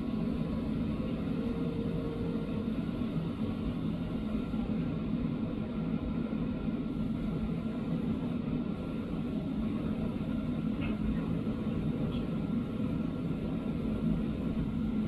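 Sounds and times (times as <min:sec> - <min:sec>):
city background rumble: 0:00.0 - 0:15.0.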